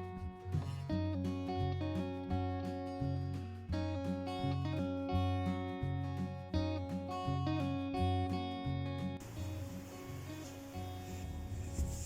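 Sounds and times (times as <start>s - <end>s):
acoustic guitar playing: 0.0s - 12.0s
steady bass line: 0.0s - 12.0s.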